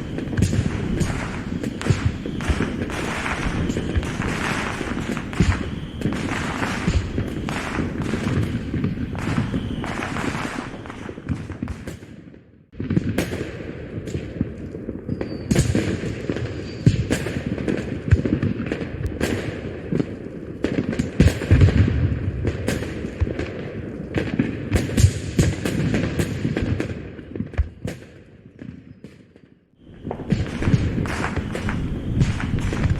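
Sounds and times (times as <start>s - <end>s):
fireworks bursting and booming: 0.0s - 32.9s.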